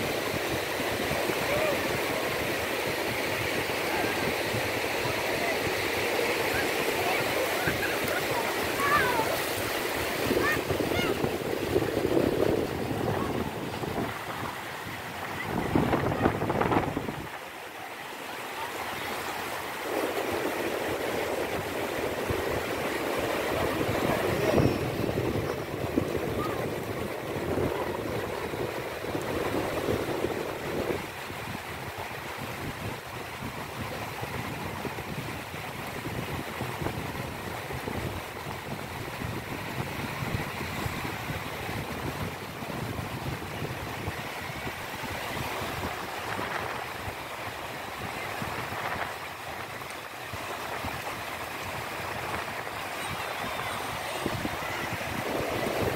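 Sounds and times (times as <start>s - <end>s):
wind buffeting microphone: 0.0s - 17.6s, 18.9s - 55.9s
small waves breaking on shore: 0.0s - 55.9s.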